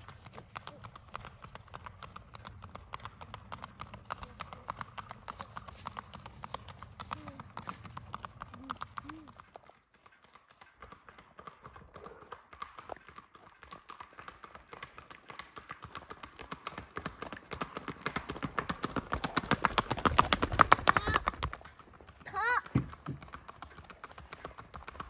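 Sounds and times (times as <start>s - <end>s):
hooves clip-clopping on paved road: 0.0s - 25.0s.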